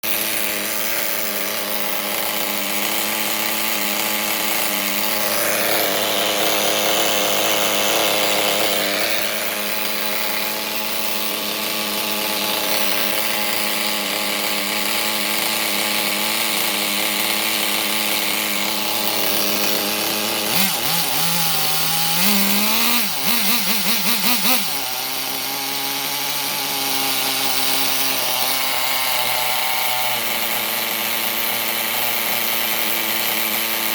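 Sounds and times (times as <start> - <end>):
nitro engine idling and revving: 0.0 - 33.9.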